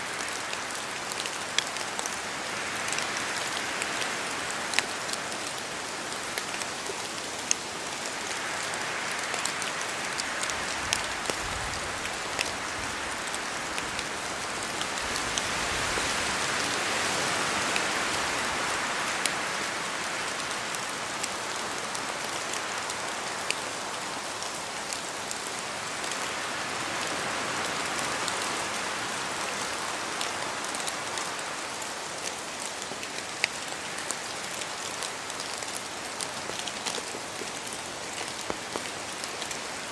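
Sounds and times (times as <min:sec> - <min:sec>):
rain falling through trees: 0:00.0 - 0:39.9
sharp rain drops: 0:00.0 - 0:39.9
wind through leaves: 0:00.0 - 0:39.9.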